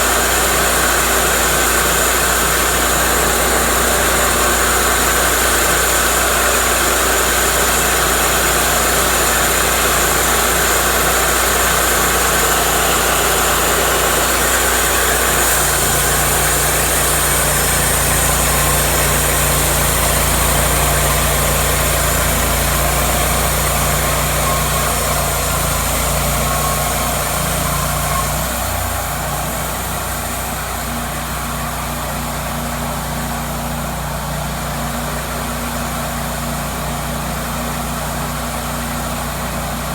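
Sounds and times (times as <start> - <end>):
bandsaw mill engine humming: 0.0 - 39.9.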